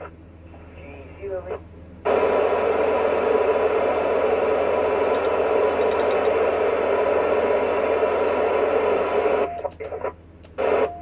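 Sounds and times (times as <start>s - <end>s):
loud radio static: 0.0s - 11.0s.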